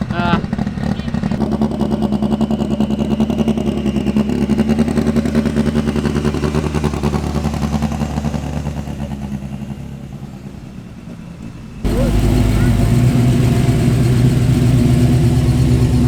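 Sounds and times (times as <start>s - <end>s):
small vehicle engine running: 0.0s - 16.0s.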